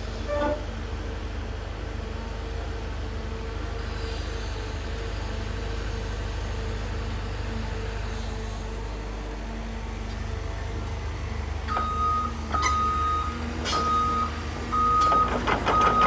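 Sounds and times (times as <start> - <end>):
excavator diesel engine droning: 0.0 - 16.0
wheel loader engine: 0.0 - 16.0.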